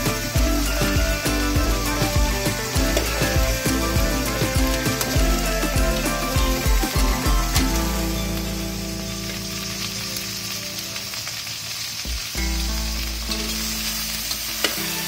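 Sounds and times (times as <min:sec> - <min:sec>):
okra sizzling in oil: 0:00.0 - 0:15.0.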